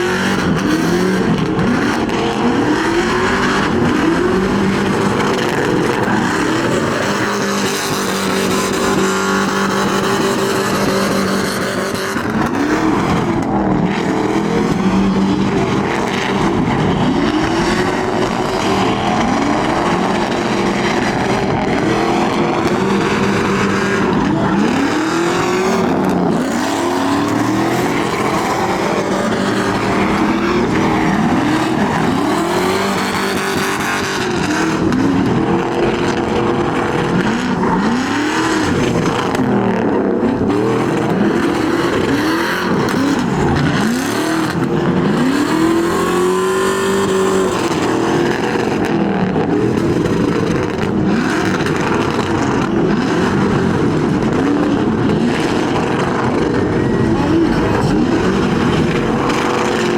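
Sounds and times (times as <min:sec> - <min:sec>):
continuous rushing noise: 0:00.0 - 0:59.9
truck engine revving: 0:00.0 - 0:59.9.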